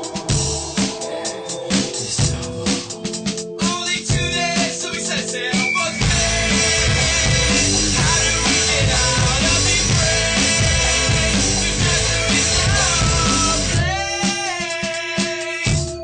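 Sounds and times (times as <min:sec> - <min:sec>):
loud band music: 0:00.0 - 0:16.0.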